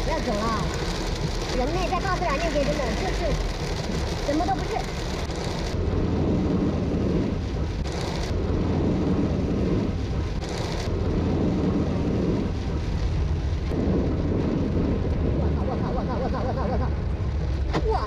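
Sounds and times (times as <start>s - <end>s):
heavy rain on car: 0.0s - 18.0s.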